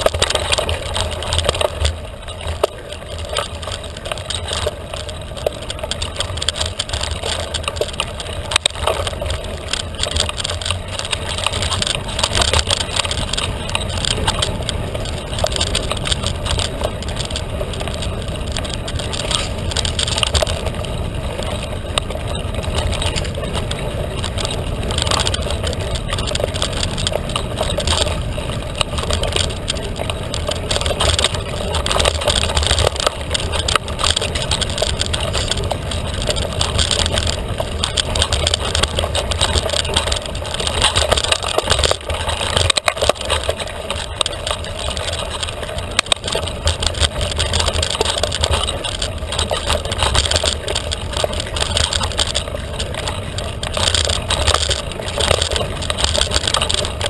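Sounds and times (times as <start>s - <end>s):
bike clicks and rattles: 0.0s - 57.0s
bike tyre noise: 0.0s - 57.0s.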